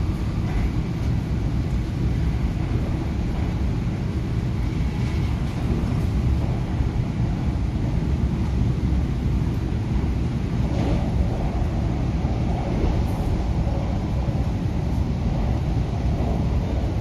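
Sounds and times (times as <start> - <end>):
train cabin rumble: 0.0 - 17.0.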